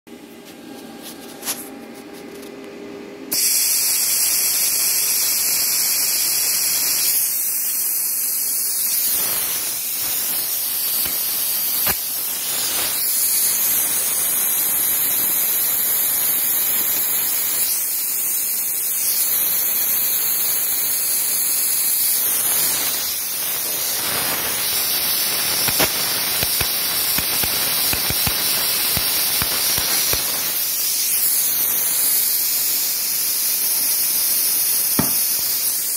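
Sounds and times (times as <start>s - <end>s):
plasma cutter air hiss: 3.3s - 35.9s
sharp electrical crackles: 3.4s - 35.9s.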